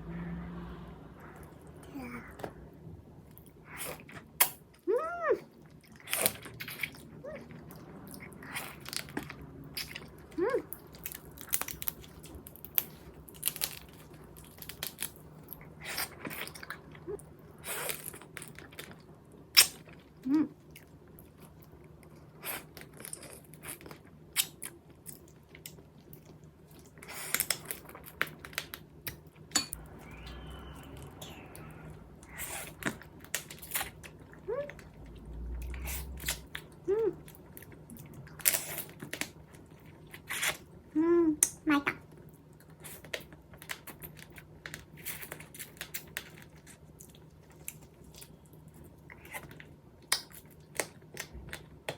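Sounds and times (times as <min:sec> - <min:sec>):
wet chewing and crunching: 0:03.2 - 0:51.9.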